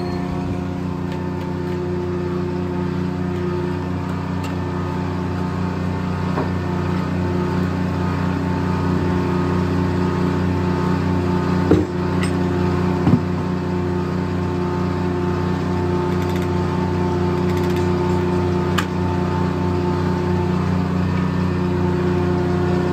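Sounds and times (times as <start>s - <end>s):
sawmill engine running: 0.0s - 22.9s.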